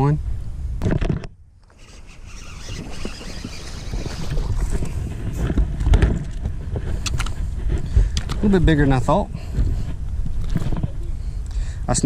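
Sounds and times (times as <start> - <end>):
wind buffeting microphone: 1.8 - 12.0.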